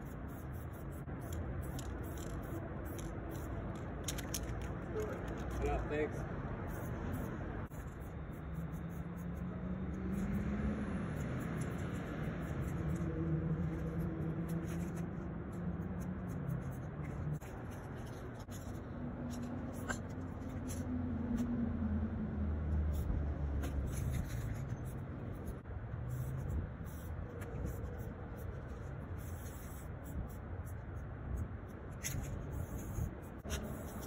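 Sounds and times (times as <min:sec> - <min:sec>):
city traffic rumble: 0:00.0 - 0:34.0.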